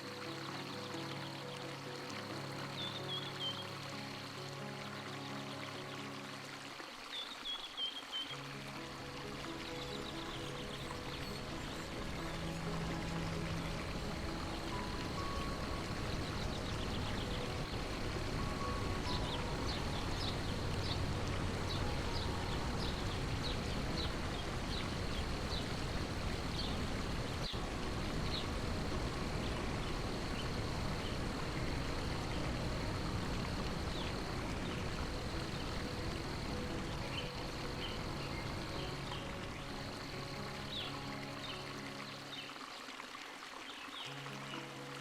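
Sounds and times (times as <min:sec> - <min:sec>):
stream water flowing: 0:00.0 - 0:45.0.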